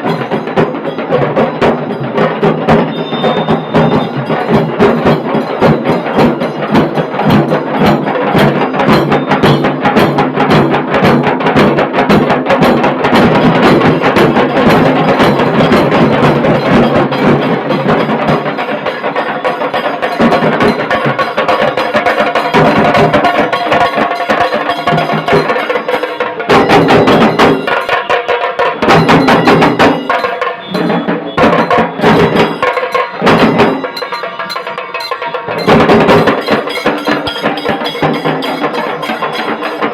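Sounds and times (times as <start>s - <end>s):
drum band playing fast: 0.0s - 39.9s.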